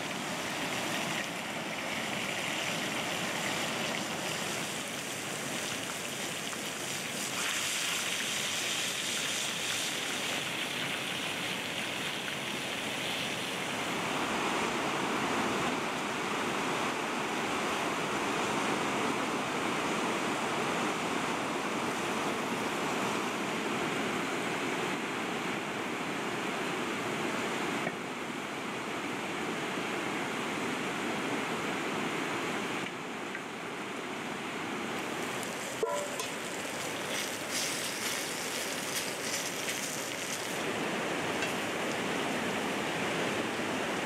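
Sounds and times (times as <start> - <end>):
river rushing over stones: 0.0 - 44.0.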